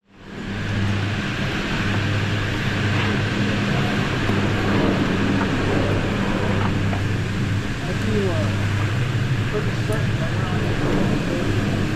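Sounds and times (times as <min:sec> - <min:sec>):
broad rush of noise: 0:00.0 - 0:11.9
chairlift low hum: 0:00.0 - 0:11.9.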